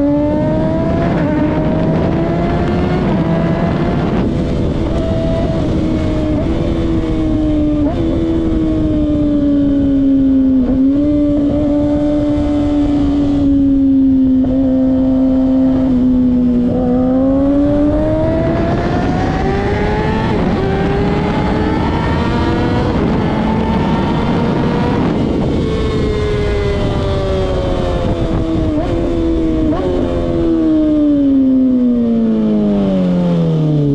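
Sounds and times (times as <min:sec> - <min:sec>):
motorcycle engine running hard: 0:00.0 - 0:33.9.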